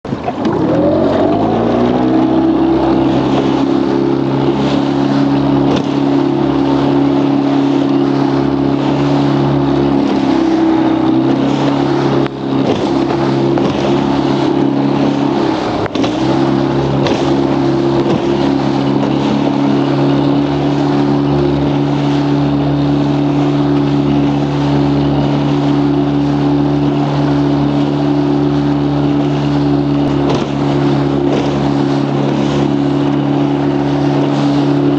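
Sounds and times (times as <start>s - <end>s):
hull knocking on waves: 0.0s - 34.9s
outboard motor running: 0.0s - 34.9s
wind and water rushing: 0.0s - 34.9s.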